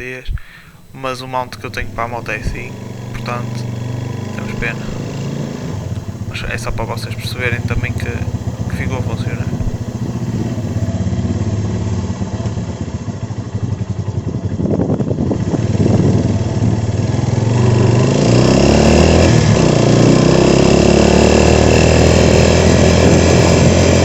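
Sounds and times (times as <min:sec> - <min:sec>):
motorcycle engine running: 0:01.5 - 0:24.0.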